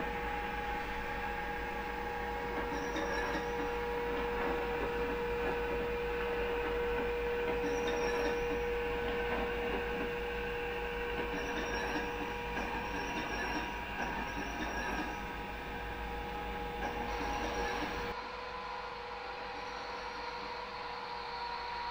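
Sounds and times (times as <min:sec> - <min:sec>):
wheels rolling on track: 0:00.0 - 0:18.2.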